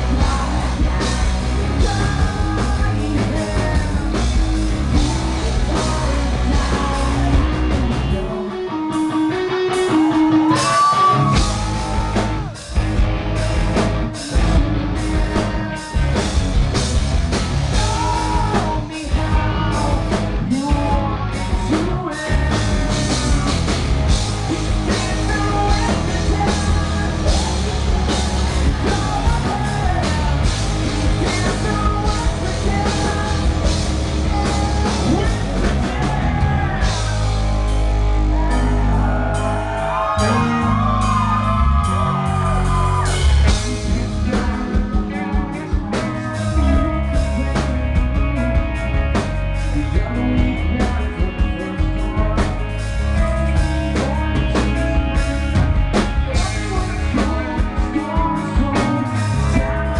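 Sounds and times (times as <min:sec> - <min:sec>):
man singing: 0:00.0 - 0:16.6, 0:17.7 - 0:59.9
rock band playing live: 0:00.0 - 0:59.9.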